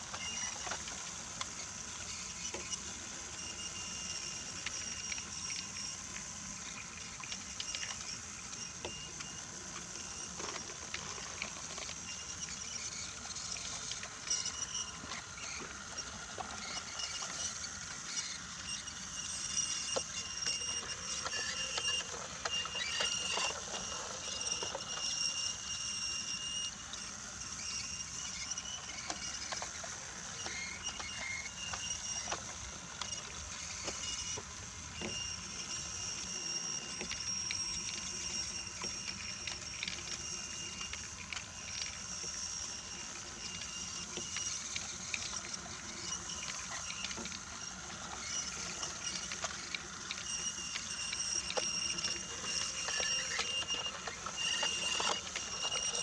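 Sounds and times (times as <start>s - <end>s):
toy train motor whine: 0.0s - 56.0s
toy train wheels clicking on wooden rails: 0.0s - 56.0s.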